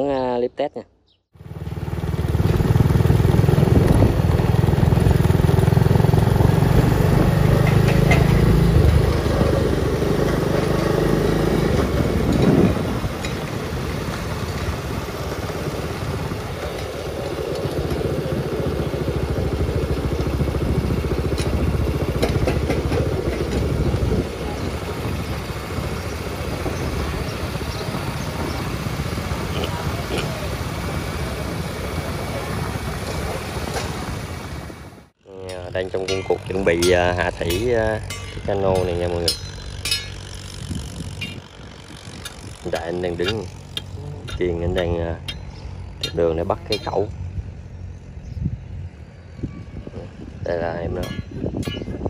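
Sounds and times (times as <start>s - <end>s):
road noise: 0.0s - 52.0s
motor scooter engines: 1.4s - 52.0s.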